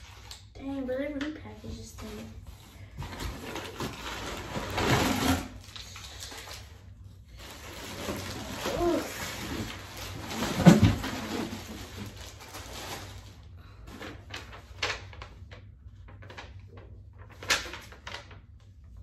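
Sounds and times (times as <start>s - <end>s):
plastic wrapping crinkling: 3.1s - 18.6s.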